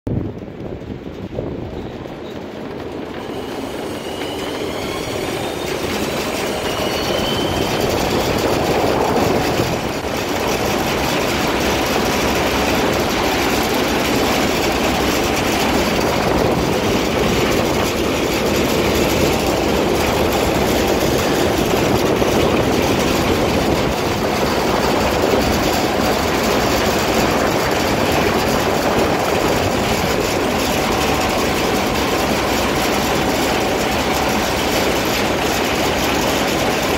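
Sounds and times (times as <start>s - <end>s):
cable car rolling noise: 0.1s - 36.9s.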